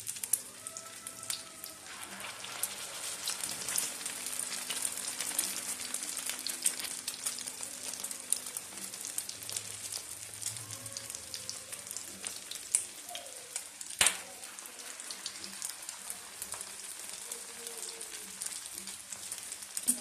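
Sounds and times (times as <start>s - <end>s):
cutlets sizzling in hot fat: 0.0s - 20.0s.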